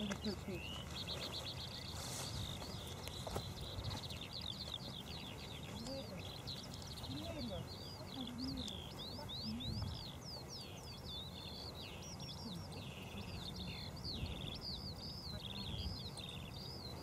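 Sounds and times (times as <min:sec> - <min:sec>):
songbird warbling: 0:00.0 - 0:17.0.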